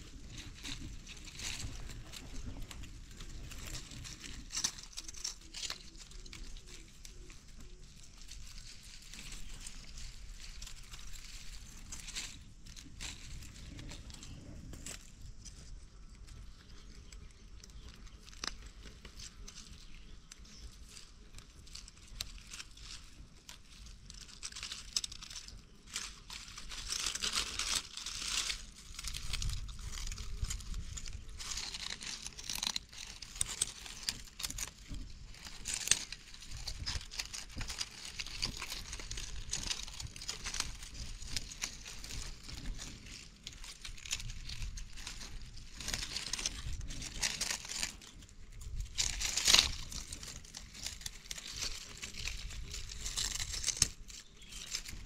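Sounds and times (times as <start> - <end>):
dry leaves crackling and rustling: 0.0 - 55.0.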